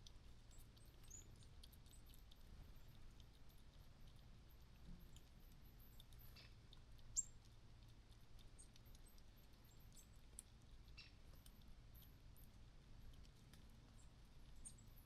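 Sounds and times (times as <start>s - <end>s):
faint high ticks: 0.0s - 15.0s.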